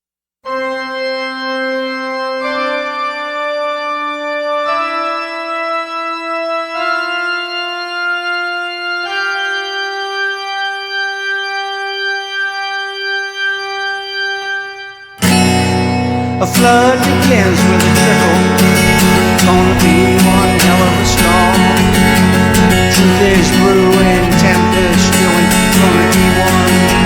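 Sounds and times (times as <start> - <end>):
organ-like keyboard tone rising: 0.5 - 27.0.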